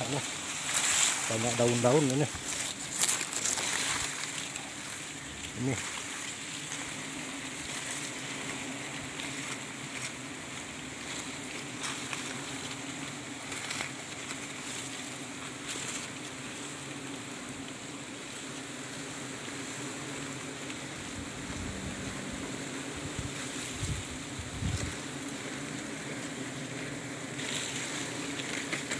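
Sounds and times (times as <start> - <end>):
bees buzzing: 0.0 - 28.9
leaves rustling: 0.0 - 28.9.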